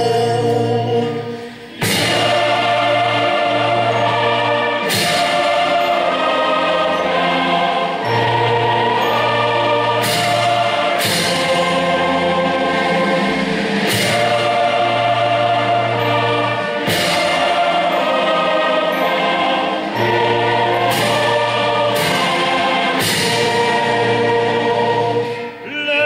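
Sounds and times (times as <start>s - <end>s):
choir singing held chords: 0.0s - 26.0s.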